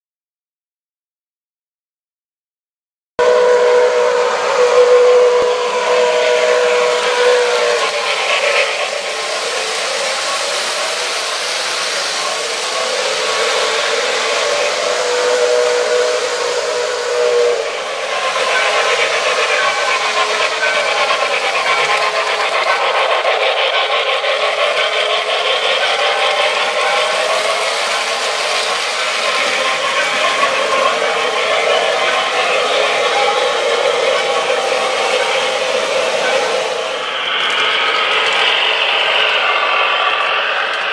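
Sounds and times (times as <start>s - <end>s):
model steam whistle chord: 3.2s - 40.9s
model train wheels rolling: 3.4s - 40.9s.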